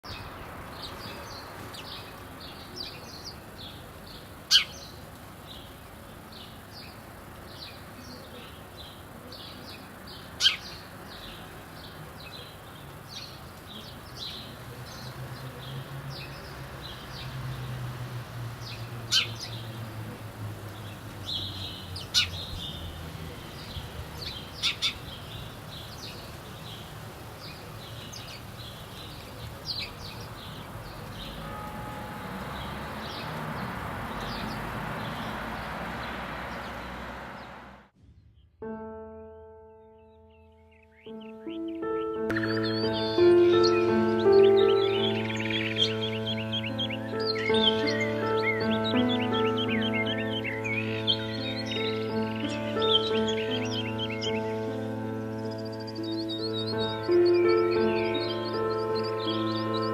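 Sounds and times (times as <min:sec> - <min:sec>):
small birds chirping: 0:00.0 - 0:38.4, 0:39.9 - 0:59.9.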